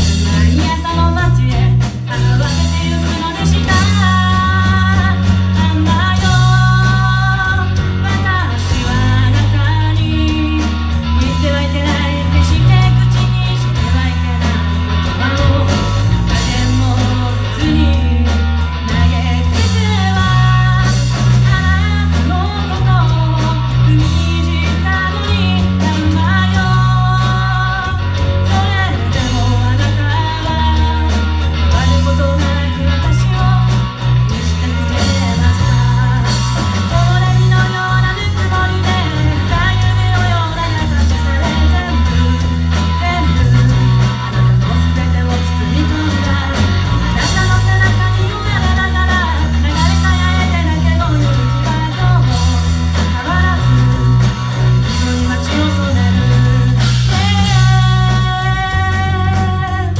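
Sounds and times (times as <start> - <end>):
live band playing: 0.0 - 59.9
person singing into a microphone: 0.0 - 59.9.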